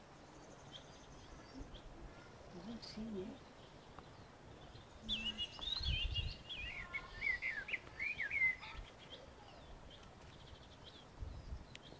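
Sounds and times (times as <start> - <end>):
songbird singing: 0.0 - 11.9
bird chirps: 0.2 - 11.9.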